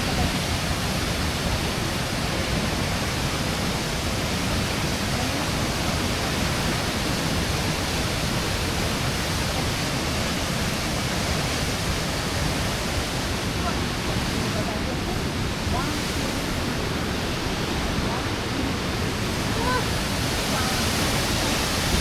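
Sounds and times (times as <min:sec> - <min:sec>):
waterfall rushing into pool: 0:00.0 - 0:22.0.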